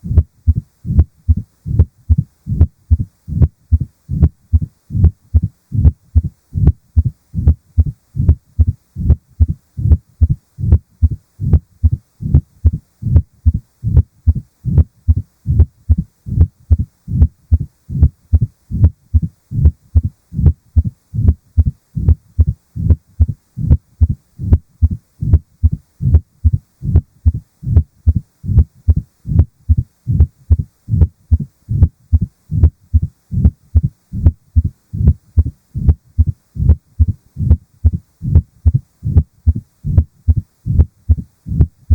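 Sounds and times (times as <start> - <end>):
heartbeat thumps: 0.0 - 41.9.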